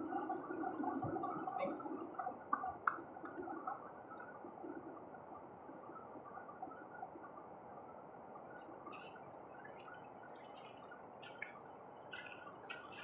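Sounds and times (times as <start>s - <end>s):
faint background wash: 0.0s - 13.0s.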